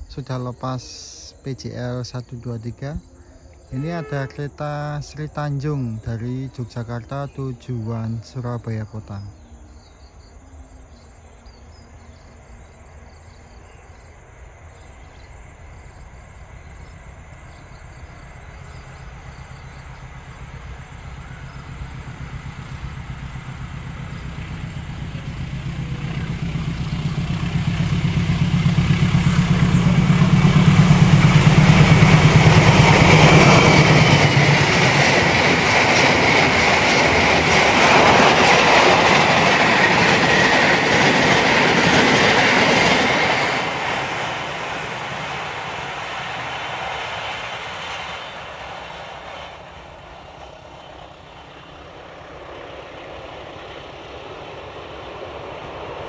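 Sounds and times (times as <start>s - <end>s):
diesel locomotive engine hum: 0.0s - 56.0s
train wheels rumbling on rails: 4.8s - 56.0s.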